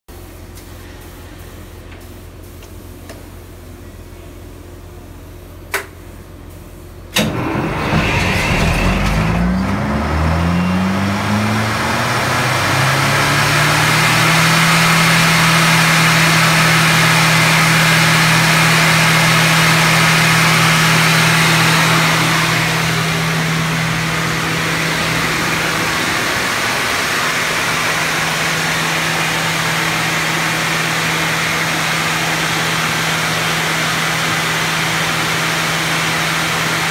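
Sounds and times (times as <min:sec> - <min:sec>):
engine starting and running: 0:07.1 - 0:36.9.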